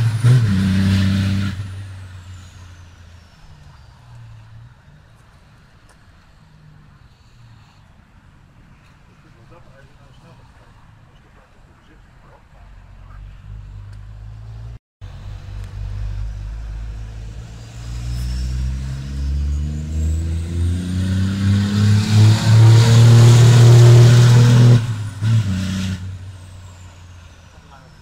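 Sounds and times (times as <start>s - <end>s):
diesel engine accelerating: 0.0s - 7.8s, 8.8s - 28.0s.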